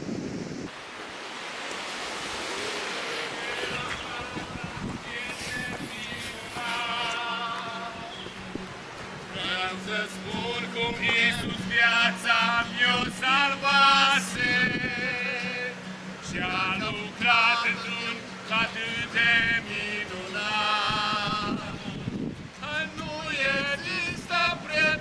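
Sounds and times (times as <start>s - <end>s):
man singing: 3.2s - 8.4s, 9.3s - 25.0s.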